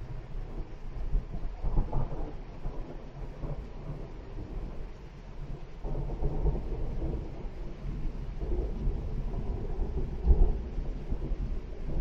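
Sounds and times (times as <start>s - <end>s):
rolling thunder rumbling: 0.0s - 12.0s.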